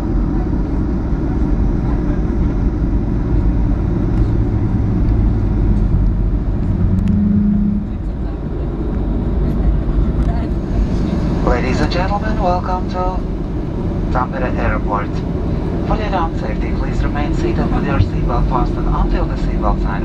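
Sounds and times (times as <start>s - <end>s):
jet engine rumble in cabin: 0.0s - 20.0s
low hum: 0.0s - 20.0s.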